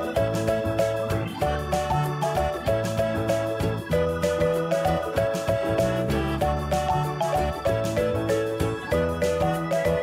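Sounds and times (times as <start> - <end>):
upbeat music with steady beat: 0.0 - 10.0.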